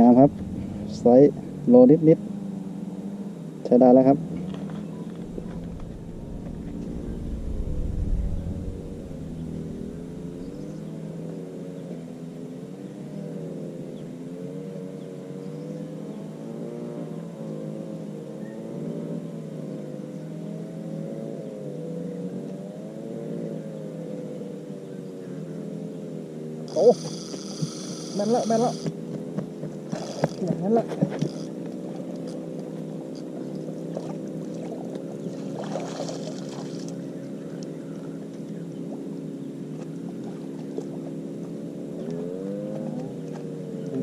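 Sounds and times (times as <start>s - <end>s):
engine droning: 0.0s - 44.0s.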